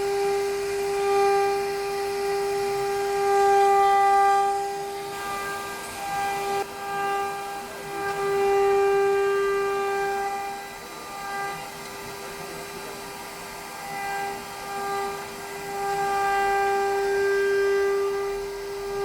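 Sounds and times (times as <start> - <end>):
machine spindle whining: 0.0 - 19.0.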